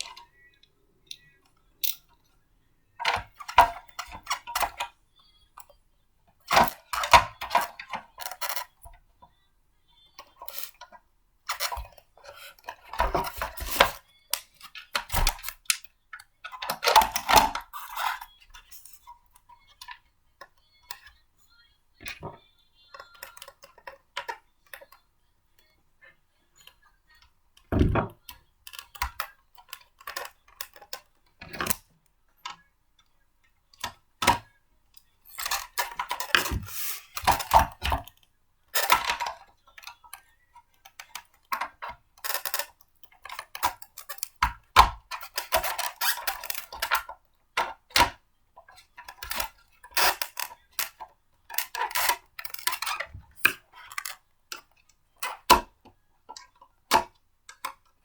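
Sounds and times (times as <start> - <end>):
plastic parts clicking and rattling: 0.0 - 2.4, 3.0 - 58.0.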